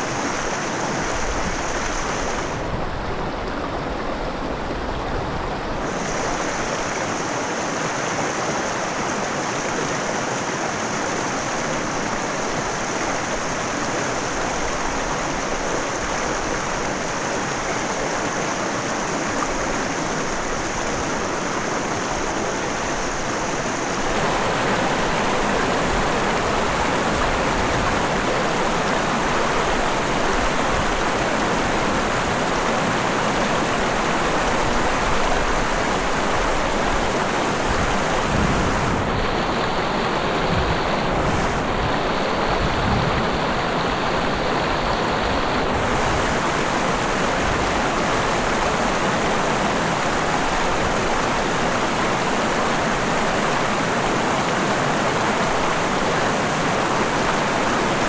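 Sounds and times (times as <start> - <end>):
river water rushing: 5.6 - 58.0.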